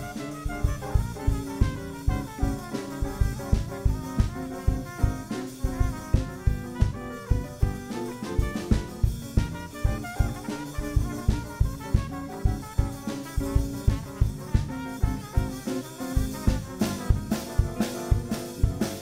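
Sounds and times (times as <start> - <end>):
electric bass: 0.0 - 15.6, 16.2 - 19.0
brass horns: 0.0 - 19.0
drum kit beat: 0.0 - 19.0
electric guitar: 0.0 - 19.0.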